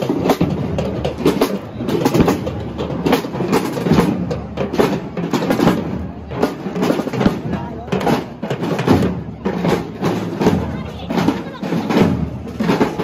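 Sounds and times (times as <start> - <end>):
children beating small drums: 0.0 - 13.0.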